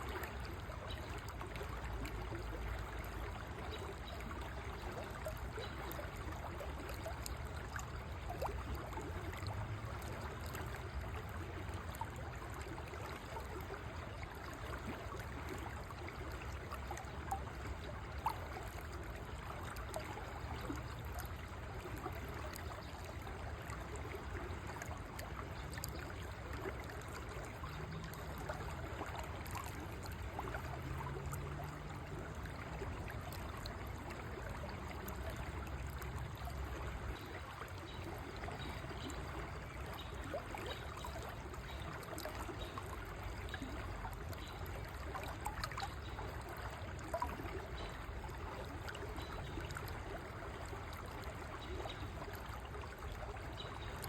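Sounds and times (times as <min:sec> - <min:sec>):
river water flowing over stones: 0:00.0 - 0:54.0.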